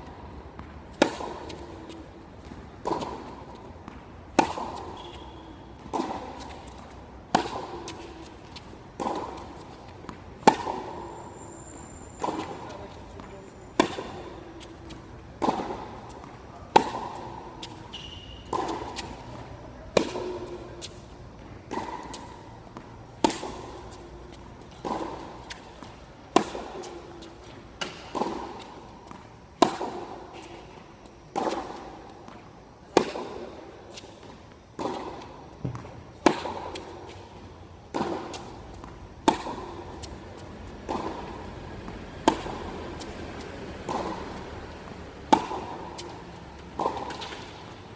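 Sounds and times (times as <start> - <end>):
tennis racket hitting ball: 0.5 - 47.9.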